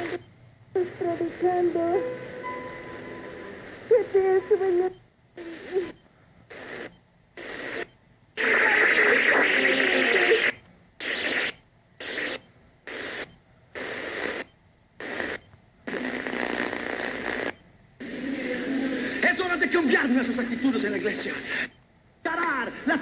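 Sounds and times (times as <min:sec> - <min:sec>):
faint radio station: 0:00.0 - 0:23.0
radio static hiss: 0:00.0 - 0:23.0.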